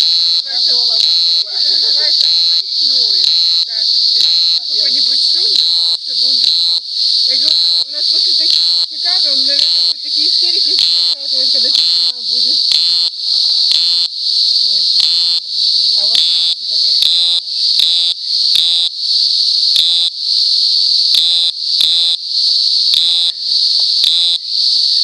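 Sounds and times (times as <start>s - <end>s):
cicada buzzing: 0.0s - 25.0s.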